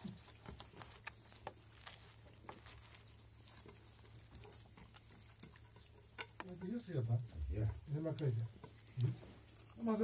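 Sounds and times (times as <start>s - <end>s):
faint clicks and rustles of eating: 0.0s - 10.0s.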